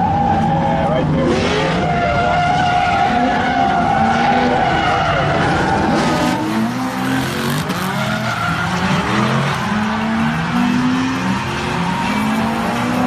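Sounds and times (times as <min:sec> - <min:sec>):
car engines revving: 0:00.0 - 0:13.0
tyres squealing: 0:00.0 - 0:13.0.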